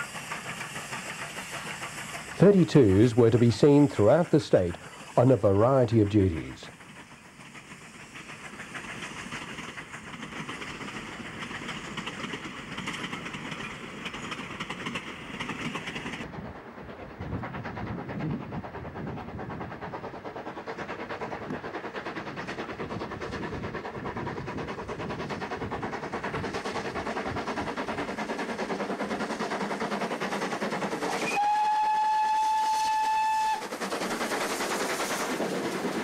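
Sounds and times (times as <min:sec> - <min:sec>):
steam locomotive exhaust beats: 0:00.0 - 0:36.0
train wheels clicking over rail joints: 0:00.0 - 0:36.0.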